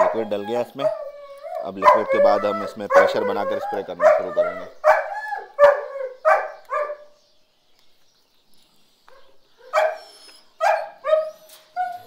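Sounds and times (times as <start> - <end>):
dogs barking: 0.0 - 7.2, 9.1 - 12.0.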